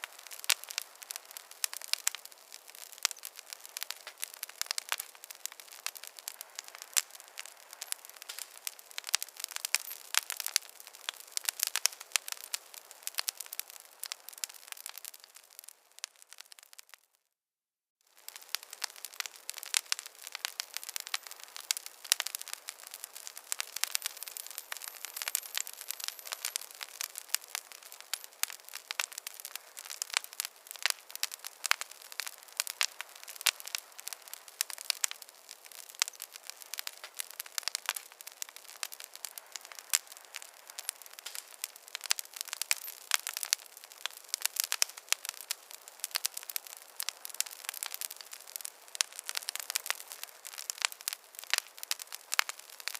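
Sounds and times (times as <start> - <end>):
wood fire crackling: 0.0 - 17.0, 18.1 - 52.9.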